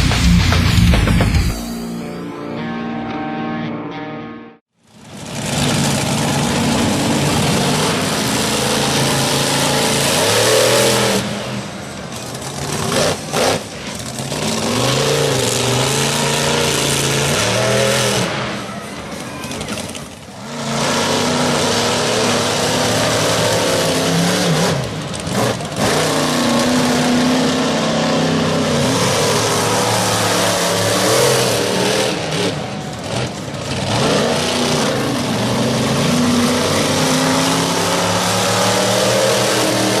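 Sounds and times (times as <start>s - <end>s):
truck engine revving hard: 4.9s - 18.7s, 19.5s - 40.0s.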